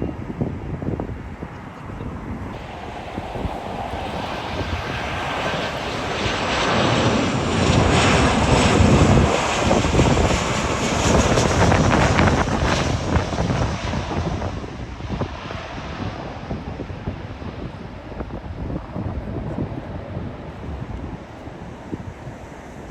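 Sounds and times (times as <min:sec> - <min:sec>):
airliner engines rushing: 0:00.0 - 0:22.9.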